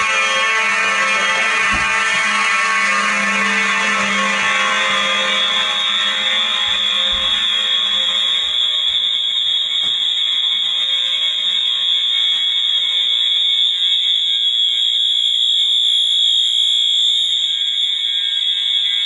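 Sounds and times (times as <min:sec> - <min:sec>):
fire alarm horns: 0:00.0 - 0:19.0.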